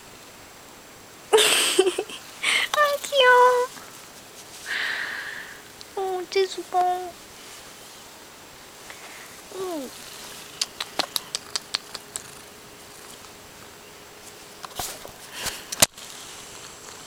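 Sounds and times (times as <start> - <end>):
rustling: 1.8 - 17.0.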